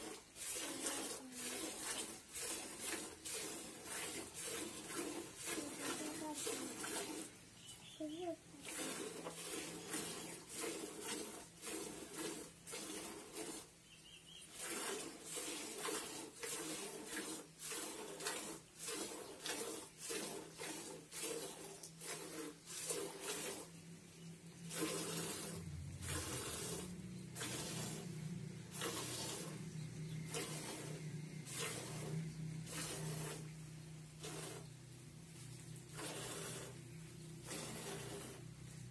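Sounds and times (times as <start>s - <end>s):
milk squirting into a pail: 0.0s - 7.5s, 8.6s - 13.8s, 14.4s - 38.9s.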